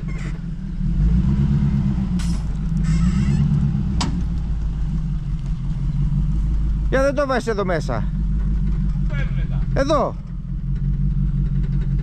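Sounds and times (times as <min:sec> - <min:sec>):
car engine running at low speed: 0:00.0 - 0:12.0.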